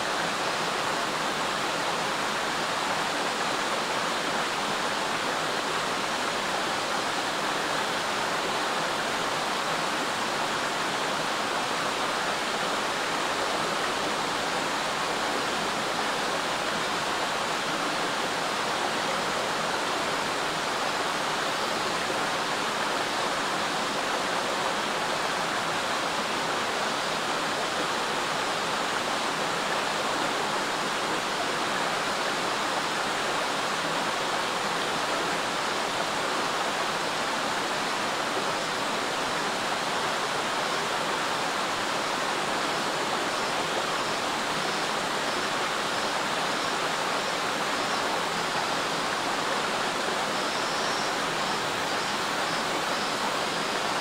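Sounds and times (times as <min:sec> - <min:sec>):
mountain stream babbling: 0:00.0 - 0:54.0.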